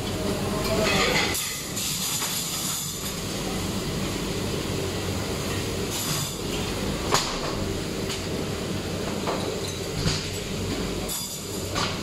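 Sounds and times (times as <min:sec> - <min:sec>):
dishwasher humming: 0:00.0 - 0:12.0.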